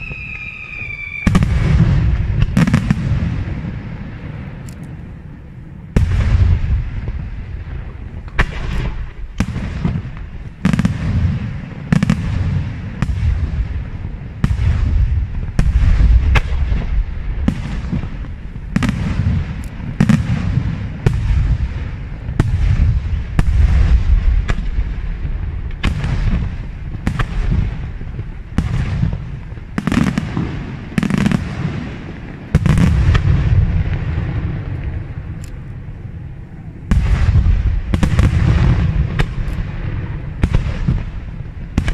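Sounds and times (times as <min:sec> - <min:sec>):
continuous low rumble: 0:00.0 - 0:41.9.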